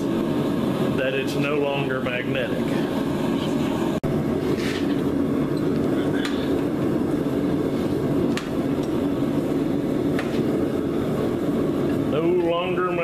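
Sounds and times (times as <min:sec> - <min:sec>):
gas forge rushing: 0:00.0 - 0:13.0.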